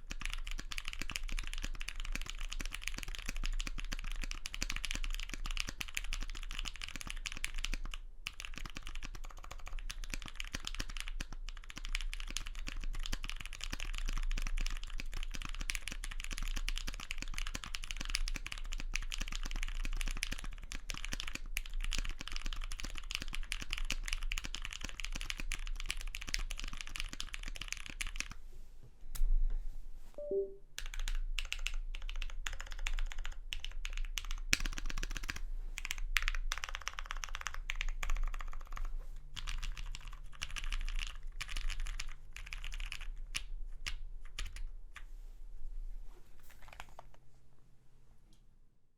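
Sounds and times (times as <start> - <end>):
mechanical keyboard typing: 0.0 - 28.4, 30.8 - 44.6, 46.6 - 47.1.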